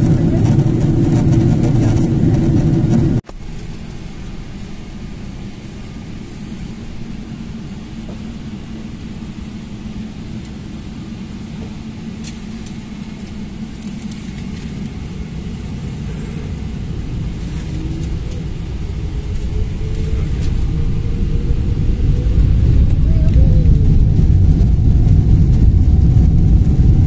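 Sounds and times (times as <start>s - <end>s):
airliner cabin rumble: 0.0s - 27.0s
faint whine: 0.0s - 27.0s.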